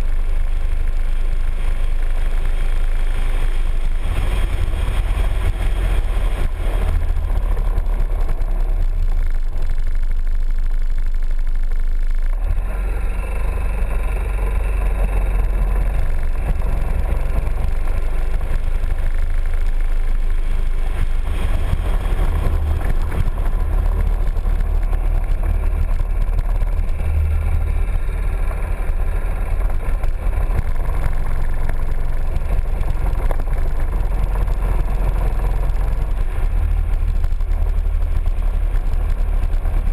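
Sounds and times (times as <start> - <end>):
road noise: 0.0 - 39.9
scooter engine running: 0.0 - 39.9.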